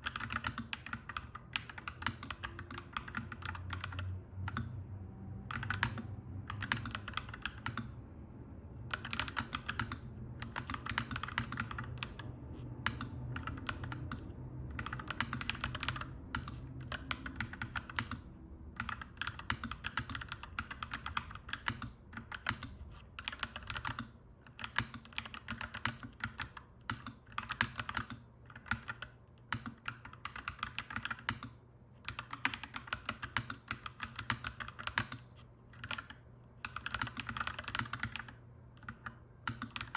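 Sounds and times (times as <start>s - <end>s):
mechanical keyboard typing: 0.0s - 4.8s, 5.4s - 8.0s, 8.9s - 39.9s.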